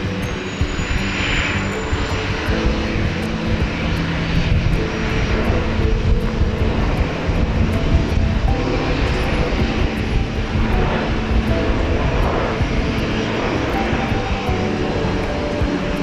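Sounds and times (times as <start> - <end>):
jet engines at takeoff: 0.0 - 16.0.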